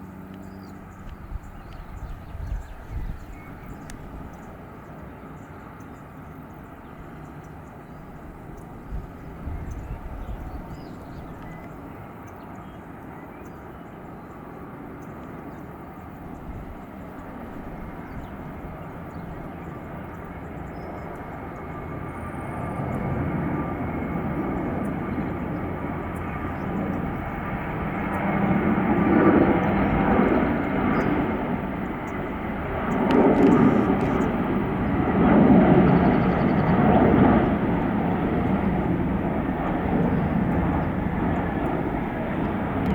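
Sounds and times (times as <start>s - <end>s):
jet engine rumble with whine: 0.0s - 42.9s.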